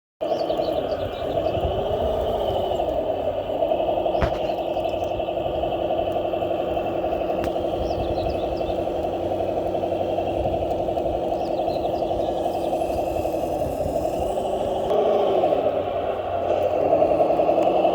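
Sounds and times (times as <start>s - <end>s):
rc model truck drone: 0.2s - 17.9s.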